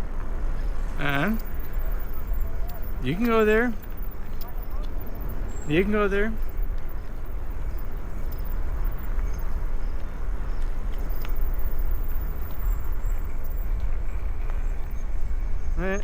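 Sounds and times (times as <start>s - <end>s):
faint clicks: 0.0s - 15.3s
wind buffeting microphone: 0.0s - 16.0s.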